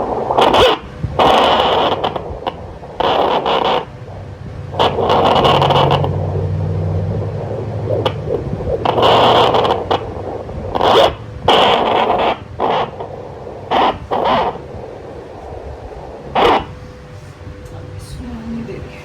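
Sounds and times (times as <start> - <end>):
doppler monitor whooshing: 0.0 - 17.6
low hum: 0.0 - 19.0.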